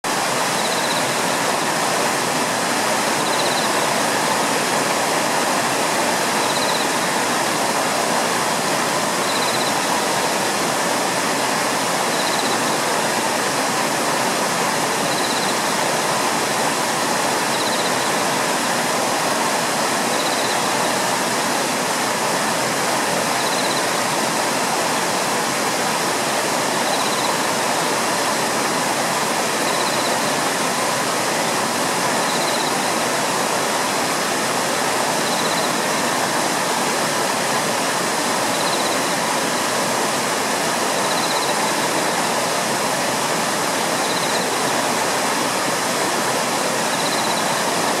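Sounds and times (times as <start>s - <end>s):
water rushing over a weir: 0.0s - 48.0s.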